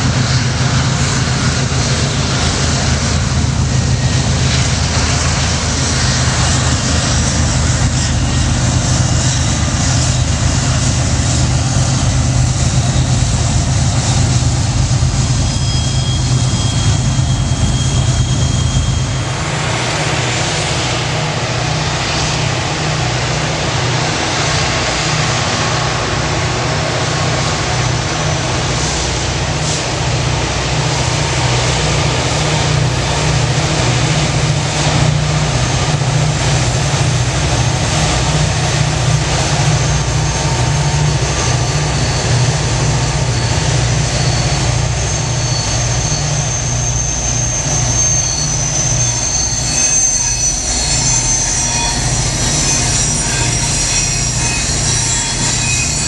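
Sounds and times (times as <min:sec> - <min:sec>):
diesel engine rumble: 0:00.0 - 0:55.7
train wheels rolling: 0:00.0 - 0:56.0
wheels squealing on rail: 0:00.0 - 0:56.0.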